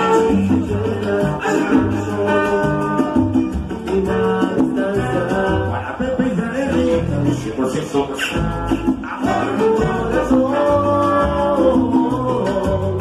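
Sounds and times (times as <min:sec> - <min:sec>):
latin dance music with guitar: 0:00.0 - 0:13.0.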